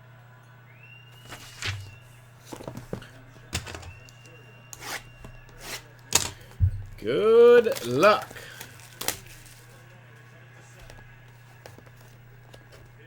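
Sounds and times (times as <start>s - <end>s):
cards and packs handled: 1.2s - 13.0s.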